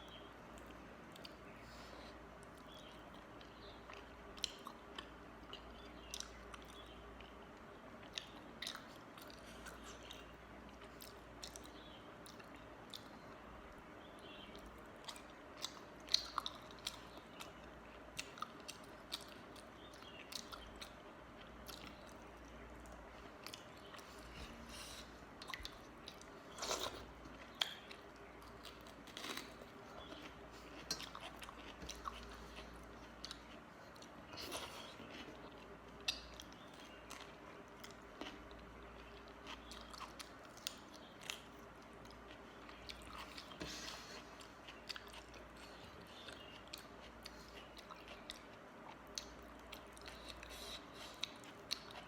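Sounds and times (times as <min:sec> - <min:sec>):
person chewing food: 0:00.0 - 0:52.0.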